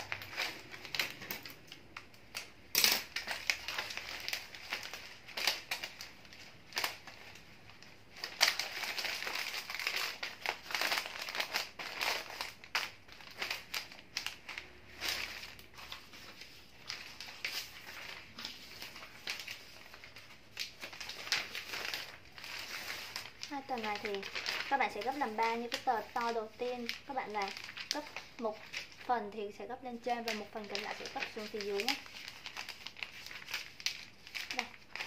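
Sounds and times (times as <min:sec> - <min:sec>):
wrapping paper rustling and crinkling: 0:00.0 - 0:35.0.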